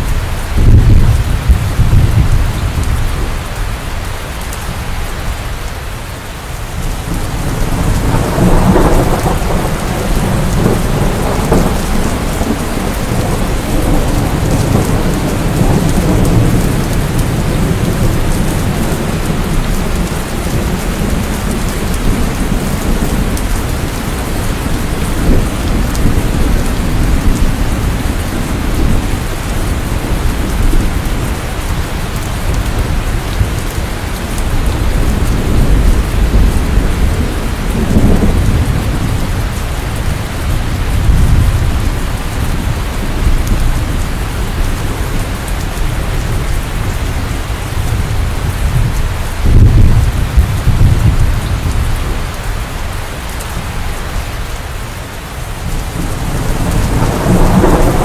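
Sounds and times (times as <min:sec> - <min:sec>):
deep rolling thunder: 0:00.0 - 0:03.4, 0:06.9 - 0:52.4, 0:55.6 - 0:58.0
heavy rain: 0:00.0 - 0:58.0.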